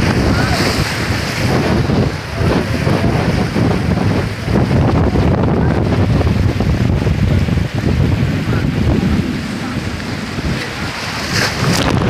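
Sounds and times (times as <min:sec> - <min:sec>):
sea waves breaking on rocks: 0:00.0 - 0:12.0
wind buffeting microphone: 0:00.0 - 0:12.0.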